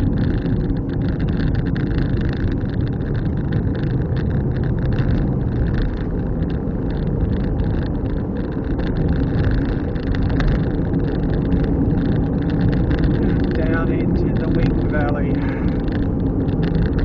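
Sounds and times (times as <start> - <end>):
car engine and tyre noise: 0.0 - 17.0
small ticks and rattles: 0.0 - 17.0.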